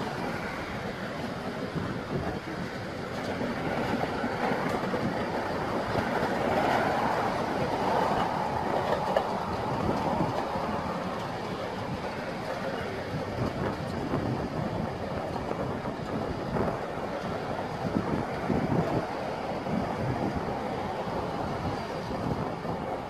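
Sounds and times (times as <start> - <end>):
diesel engines rumbling: 0.0 - 23.0.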